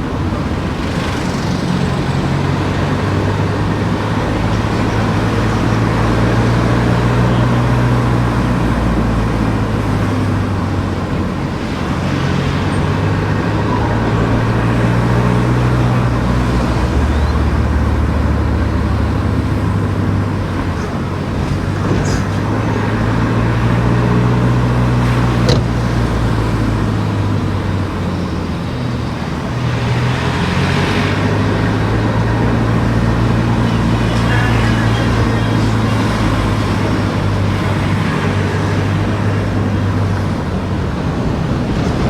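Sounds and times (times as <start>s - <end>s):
car engine hum: 0.0s - 42.0s
tyre and road noise: 0.0s - 42.0s.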